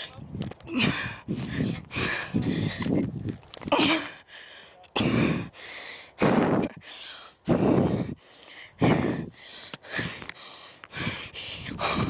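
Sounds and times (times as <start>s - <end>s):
person breathing hard: 0.7s - 3.1s, 3.8s - 12.0s.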